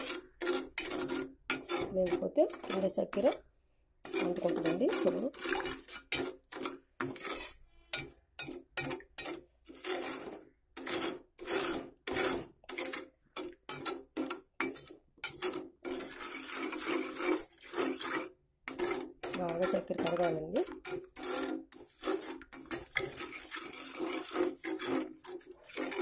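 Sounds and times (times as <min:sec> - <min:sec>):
plastic spatula scraping a pan: 0:00.0 - 0:26.0.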